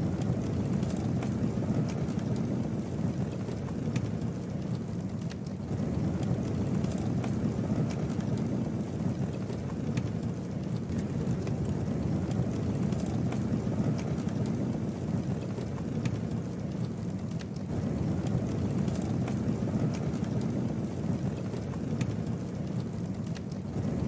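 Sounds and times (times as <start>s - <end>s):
burning wood crackling: 0.0s - 24.0s
campfire flame rushing: 0.0s - 24.0s.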